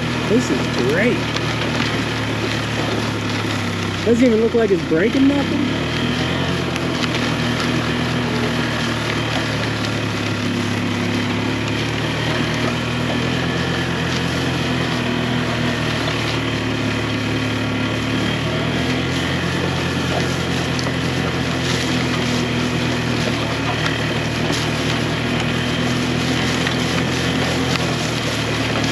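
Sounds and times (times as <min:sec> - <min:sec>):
small vehicle engine running: 0:00.0 - 0:28.9.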